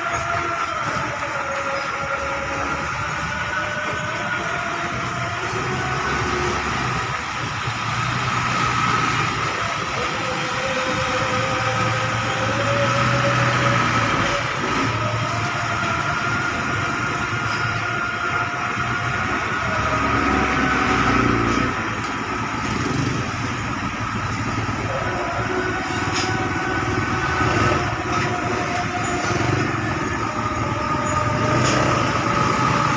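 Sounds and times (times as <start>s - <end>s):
bus engines running: 0.0s - 32.9s
high whine: 0.0s - 32.9s.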